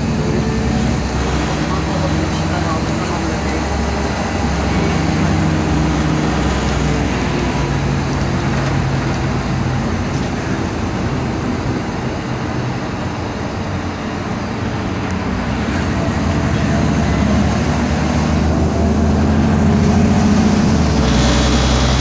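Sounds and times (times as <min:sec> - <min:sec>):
bus engine and drivetrain running: 0:00.0 - 0:22.0
noisy differential whine: 0:00.0 - 0:22.0
road noise: 0:00.0 - 0:22.0.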